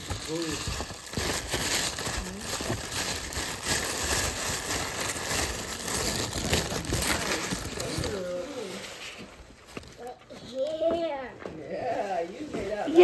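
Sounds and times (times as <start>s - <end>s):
tissue paper crinkling: 0.0s - 10.8s.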